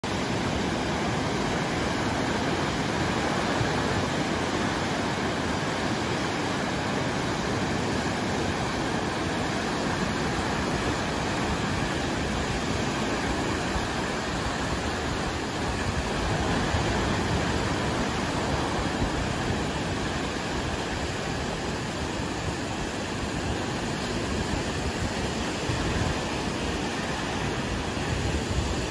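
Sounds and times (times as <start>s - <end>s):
waves breaking on a beach: 0.0s - 28.9s.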